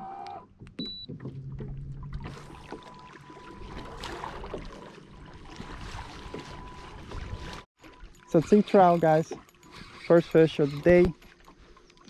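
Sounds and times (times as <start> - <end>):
water lapping against kayak hull: 0.5 - 12.0.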